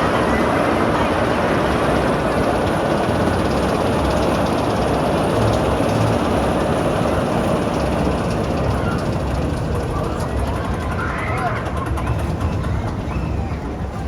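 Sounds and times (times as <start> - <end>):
roller coaster wheels rumbling on track: 0.0 - 14.0.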